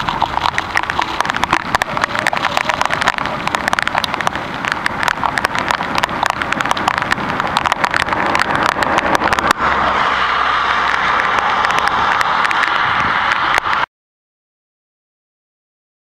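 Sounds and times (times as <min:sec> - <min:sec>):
rain drops pattering: 0:00.0 - 0:13.9
wet rushing noise: 0:00.0 - 0:13.9.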